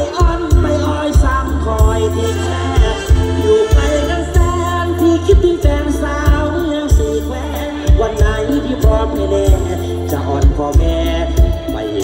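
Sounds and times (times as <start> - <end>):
bass drum beat: 0.0 - 12.0
sustained melody line: 0.0 - 12.0.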